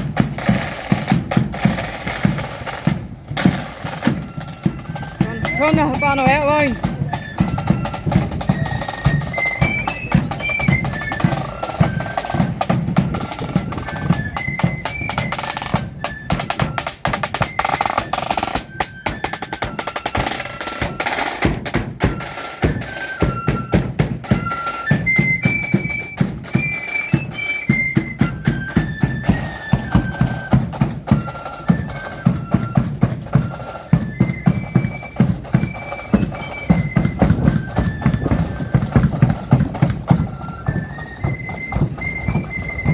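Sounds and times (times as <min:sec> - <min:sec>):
flutes playing a tune: 0:00.0 - 0:42.9
snare drum rolls: 0:00.0 - 0:42.9.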